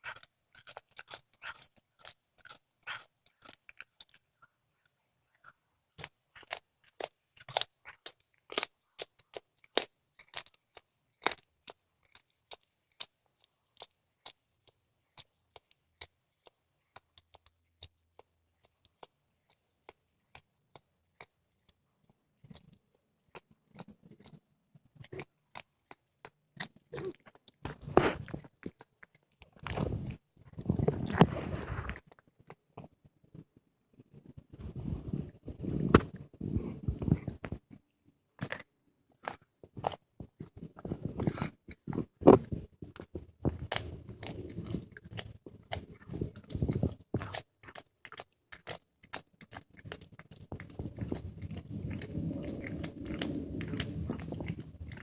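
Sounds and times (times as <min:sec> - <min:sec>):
cat crunching bones: 0:00.0 - 0:04.4, 0:06.0 - 0:21.7, 0:22.4 - 0:33.0, 0:38.4 - 0:55.0.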